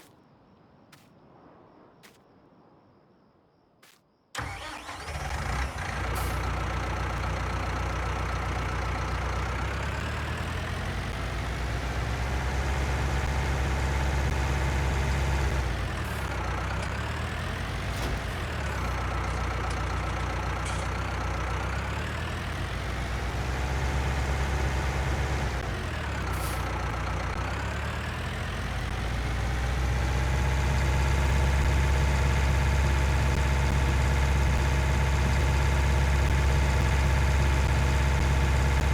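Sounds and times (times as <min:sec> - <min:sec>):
tractor engine running: 0:04.4 - 0:38.9.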